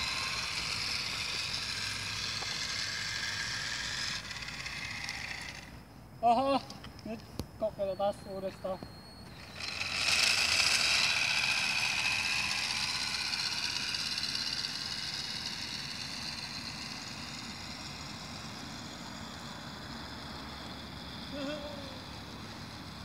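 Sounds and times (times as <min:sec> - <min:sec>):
bicycle motor whining: 0:00.0 - 0:07.0, 0:07.8 - 0:23.0.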